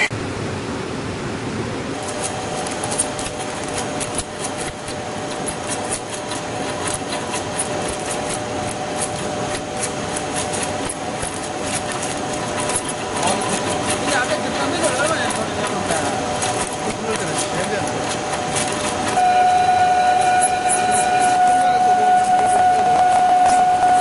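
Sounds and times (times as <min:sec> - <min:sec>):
metal lathe machining: 0:02.0 - 0:24.0.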